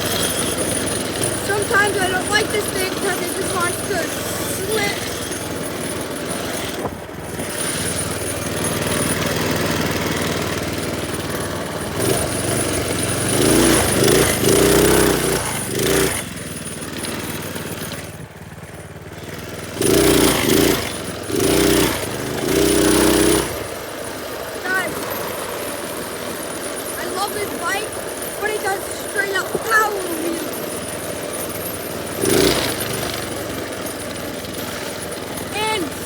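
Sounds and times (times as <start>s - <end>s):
small motorbike engine revving: 0.0s - 36.0s.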